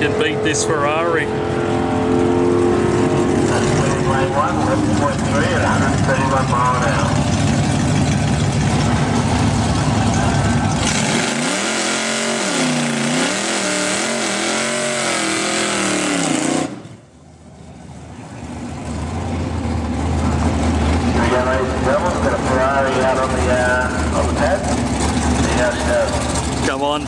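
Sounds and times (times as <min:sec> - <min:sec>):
drag race car engine revving: 0:00.0 - 0:27.0
engine rumble: 0:00.0 - 0:27.0.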